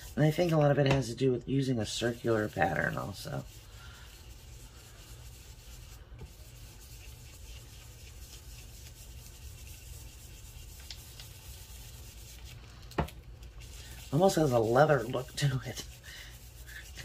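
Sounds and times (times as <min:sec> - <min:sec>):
brush rubbing on paper: 0:00.0 - 0:00.7, 0:01.5 - 0:17.0.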